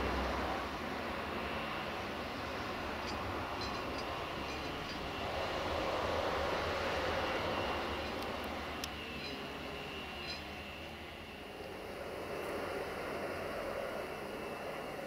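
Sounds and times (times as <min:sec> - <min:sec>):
distant diesel train drone: 0:00.0 - 0:15.0.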